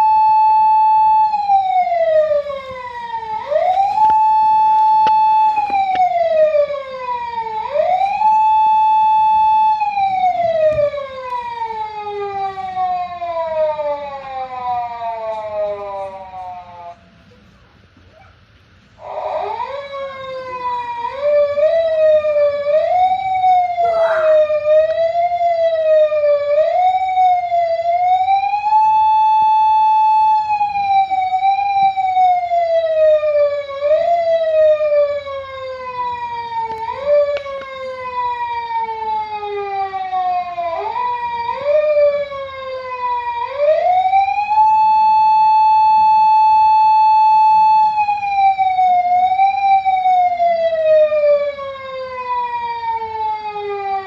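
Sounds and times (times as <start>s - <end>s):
electronic police siren: 0.0s - 17.1s, 19.0s - 54.0s.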